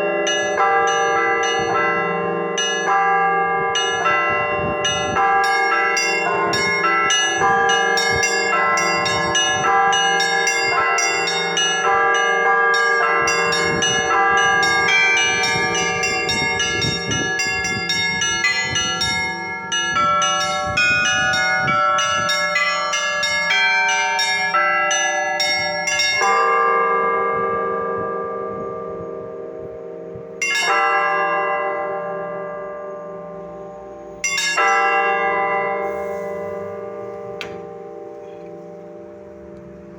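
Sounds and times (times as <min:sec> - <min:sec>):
church bells ringing rapidly: 0:00.0 - 0:39.9
deep bells humming: 0:00.0 - 0:39.9.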